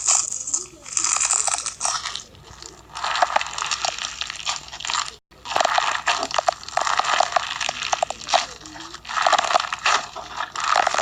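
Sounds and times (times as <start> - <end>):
crunchy slime being squeezed: 0.0 - 11.0.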